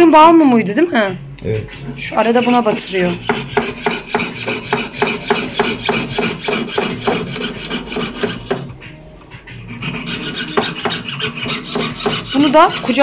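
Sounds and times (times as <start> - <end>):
saw blade rasping through metal: 1.7 - 13.0.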